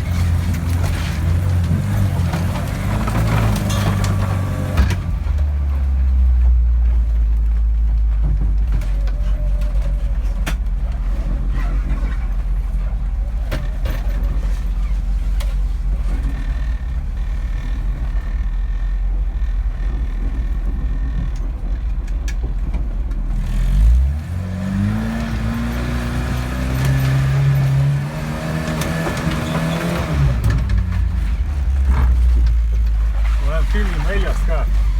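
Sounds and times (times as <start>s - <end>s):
engine rumbling and revving: 0.0s - 34.9s.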